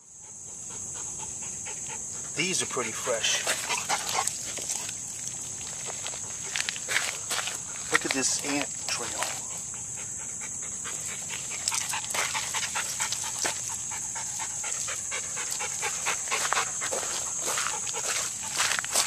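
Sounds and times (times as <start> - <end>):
high-pitched insect drone: 0.0 - 19.0
dog panting: 0.2 - 7.9, 9.3 - 19.0.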